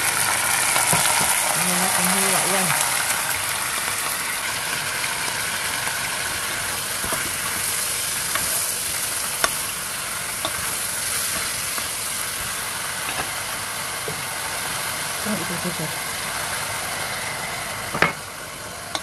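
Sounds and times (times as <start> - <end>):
meat sizzling in oil: 0.0 - 19.0.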